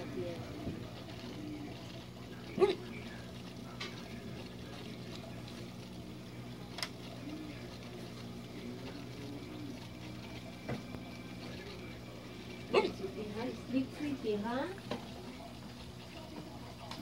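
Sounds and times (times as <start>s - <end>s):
low pump hum: 0.0s - 17.0s
water trickling: 0.0s - 17.0s.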